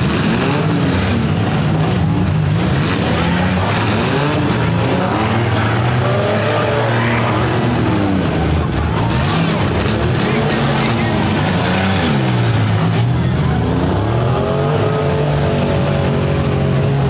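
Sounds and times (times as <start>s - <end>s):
car engines revving hard: 0.0s - 17.0s
loud steady engine drone: 0.0s - 17.0s.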